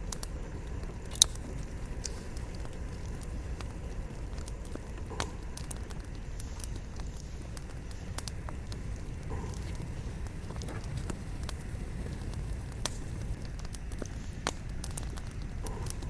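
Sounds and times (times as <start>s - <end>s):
logs crackling and popping: 0.0s - 16.0s
low rumble of flames: 0.0s - 16.0s.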